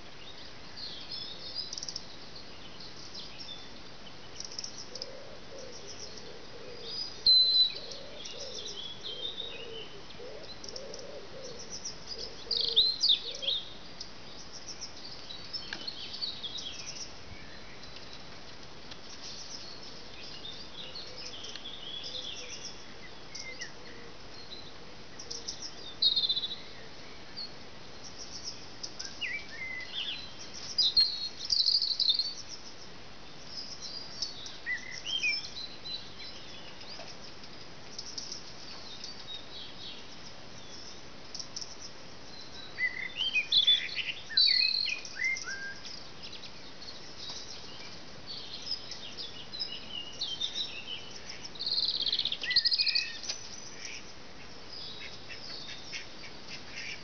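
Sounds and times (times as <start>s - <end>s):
faint hiss: 0.0s - 57.0s
songbirds chirping and singing: 0.0s - 57.0s.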